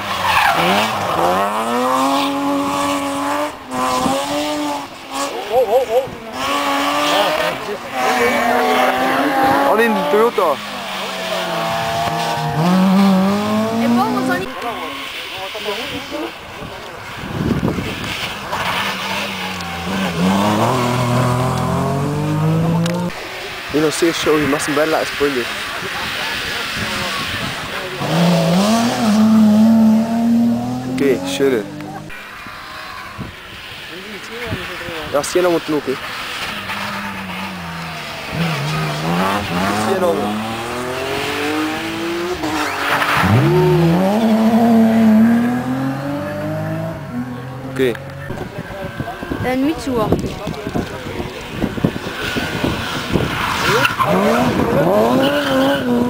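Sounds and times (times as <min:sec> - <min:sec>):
car engine accelerating: 0:00.0 - 0:14.8, 0:15.9 - 0:24.8, 0:25.5 - 0:32.2, 0:35.4 - 0:56.0.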